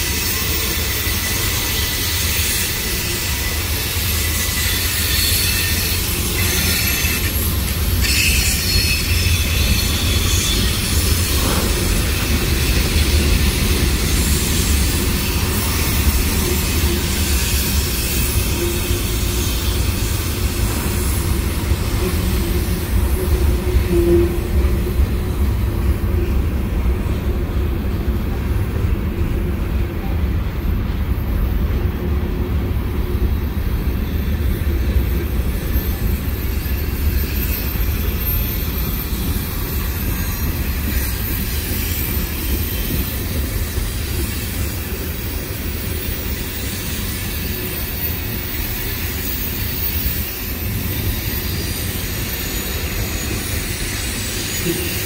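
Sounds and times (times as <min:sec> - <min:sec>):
high wheel squeal: 0:00.0 - 0:25.6, 0:33.2 - 0:55.0
train wheels rumbling on rails: 0:00.0 - 0:55.0.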